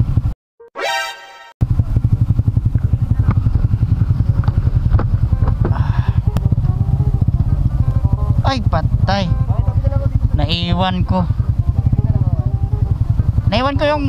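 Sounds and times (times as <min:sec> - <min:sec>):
motorcycle engine running: 0:00.0 - 0:00.4, 0:01.6 - 0:14.0.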